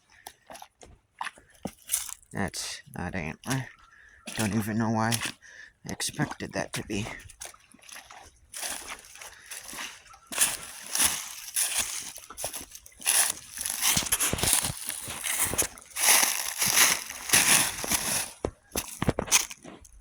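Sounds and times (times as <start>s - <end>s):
footsteps splashing through water: 0.0s - 2.3s, 3.5s - 5.4s, 6.0s - 20.0s.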